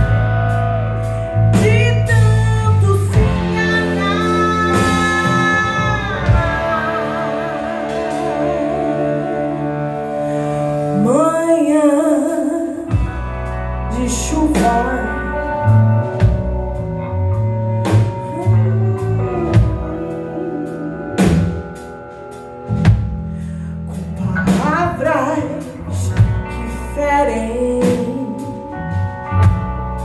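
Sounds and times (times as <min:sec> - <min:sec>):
electric bass: 0:00.0 - 0:30.0
electric guitars: 0:00.0 - 0:30.0
woman singing: 0:01.5 - 0:16.6, 0:17.3 - 0:22.0, 0:23.9 - 0:29.7.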